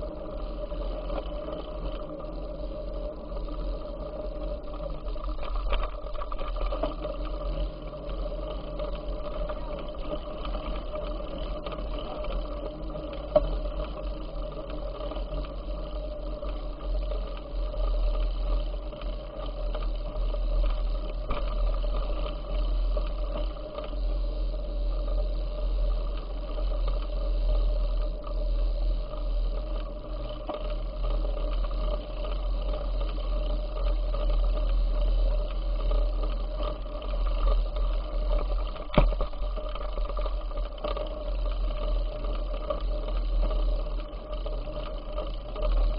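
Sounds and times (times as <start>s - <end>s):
constant hum: 0.0s - 45.9s.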